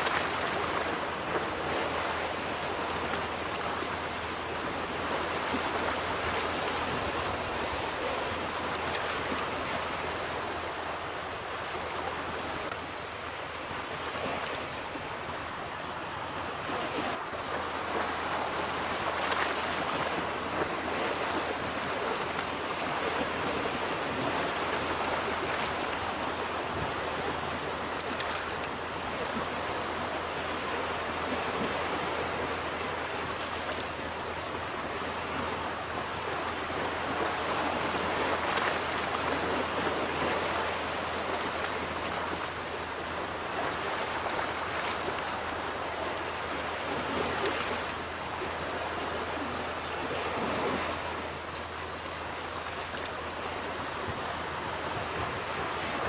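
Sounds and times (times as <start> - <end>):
ocean waves washing onto beach: 0.0 - 56.0.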